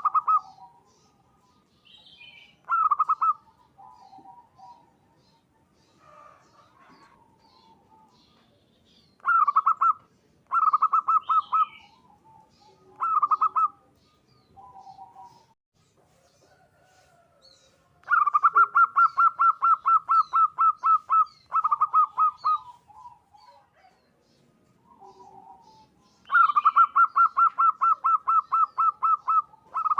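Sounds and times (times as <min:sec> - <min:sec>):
dove cooing staccato: 0:00.0 - 0:01.2, 0:02.6 - 0:08.4, 0:09.2 - 0:13.9, 0:14.6 - 0:15.6, 0:18.0 - 0:24.2, 0:24.8 - 0:29.9
distant bird chirps: 0:00.0 - 0:29.9.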